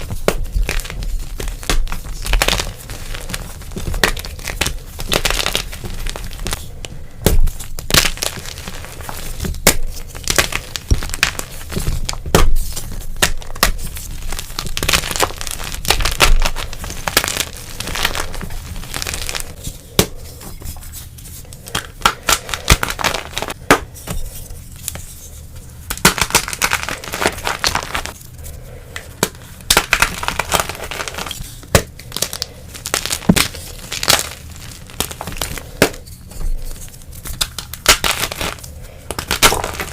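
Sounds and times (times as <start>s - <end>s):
chalk crunching and crackling: 0.0s - 39.9s.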